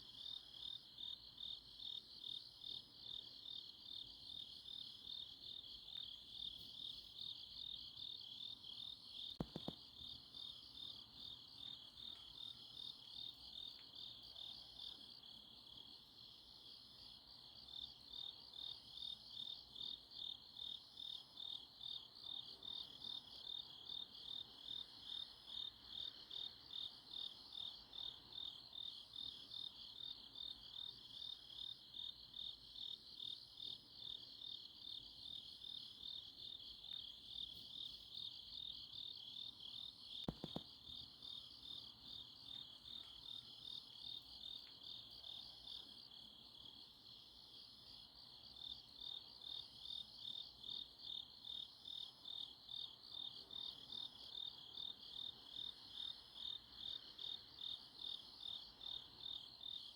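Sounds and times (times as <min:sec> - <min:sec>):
faint high insect chirp: 0:00.0 - 0:59.9.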